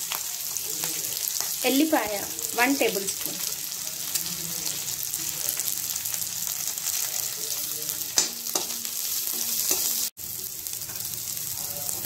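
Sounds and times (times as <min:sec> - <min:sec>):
sizzling in hot oil: 0:00.0 - 0:12.0.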